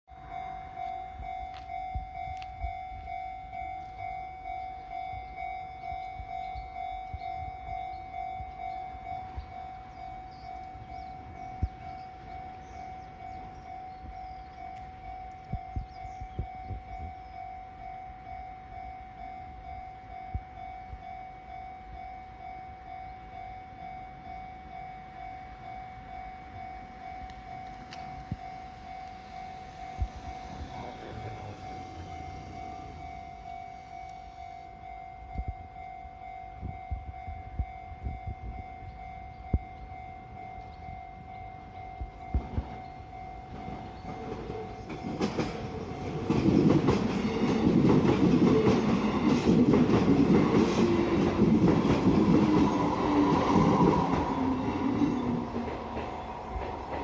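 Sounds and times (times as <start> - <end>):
level-crossing warning bell ringing: 0.1 - 57.0.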